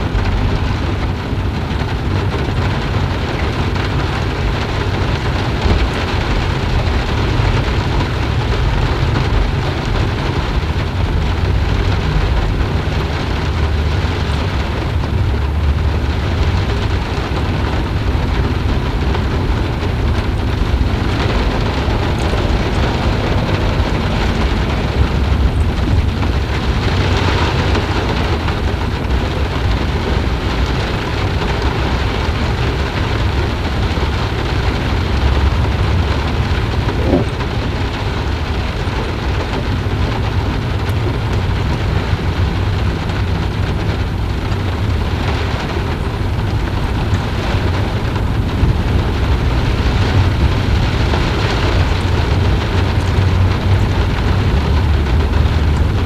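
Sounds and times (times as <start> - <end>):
deep low rumble: 0.0 - 56.0
heavy rain: 0.0 - 56.0.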